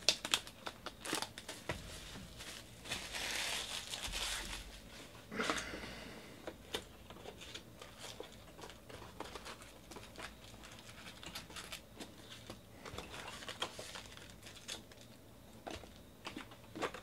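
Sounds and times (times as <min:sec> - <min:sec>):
plastic wrap crinkling: 0:00.0 - 0:05.2, 0:06.7 - 0:17.0.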